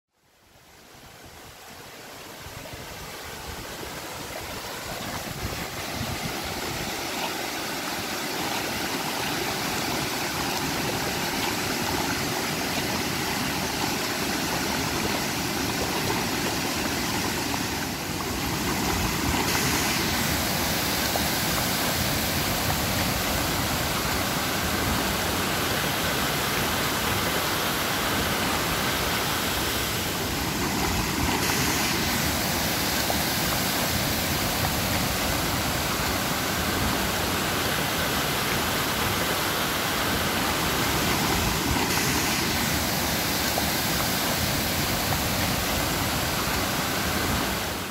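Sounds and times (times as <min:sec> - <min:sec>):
waterfall rushing: 0:00.6 - 0:47.9.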